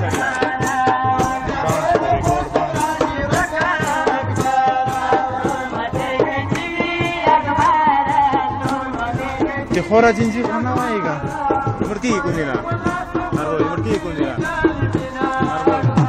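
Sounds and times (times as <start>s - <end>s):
steady percussive beat: 0.0s - 16.0s.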